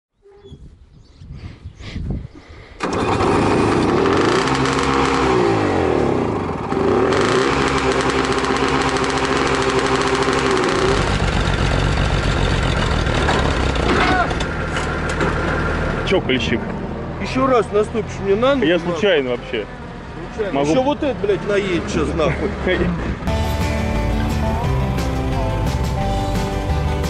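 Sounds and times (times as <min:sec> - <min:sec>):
tractor engine running: 0:02.8 - 0:27.0.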